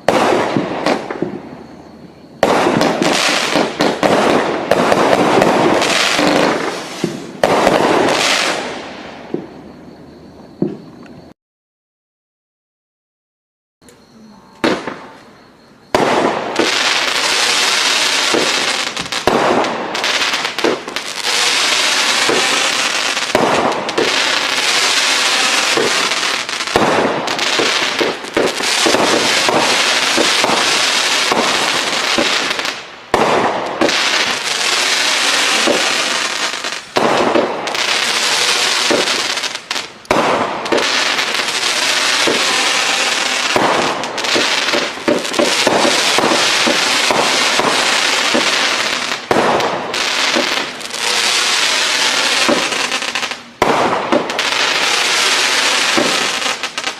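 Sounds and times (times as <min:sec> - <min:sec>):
fireworks launches and bursts: 0:00.0 - 0:09.7, 0:15.9 - 0:56.9.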